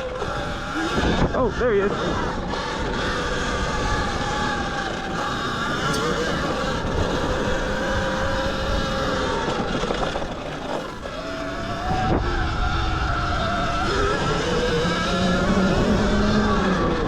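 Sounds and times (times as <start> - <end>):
electric motor whining: 0.0 - 17.0
wind and tyre noise: 0.0 - 17.0.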